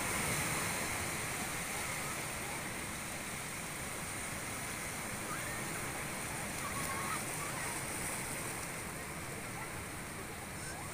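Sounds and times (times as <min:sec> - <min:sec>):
waves washing over rocks: 0:00.0 - 0:10.9.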